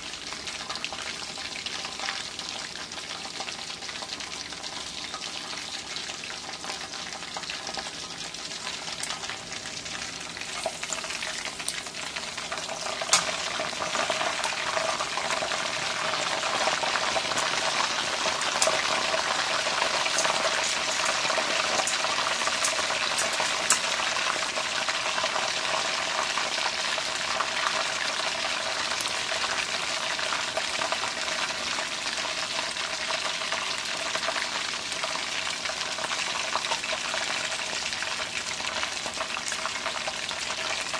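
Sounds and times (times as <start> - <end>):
chicken deep-frying in oil: 0.0 - 40.9.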